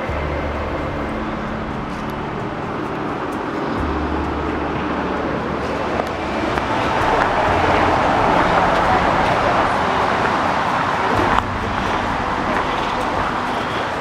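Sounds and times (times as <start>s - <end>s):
traffic rushing past: 0.0s - 14.0s.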